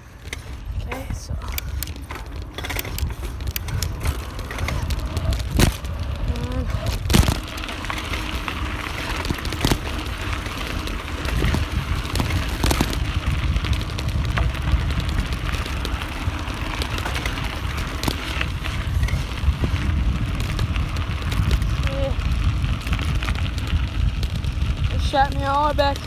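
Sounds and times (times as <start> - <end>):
bicycle tyre noise: 0.0 - 26.0
bike knocking and rattling: 0.0 - 26.0
wind rumble on microphone: 0.0 - 26.0.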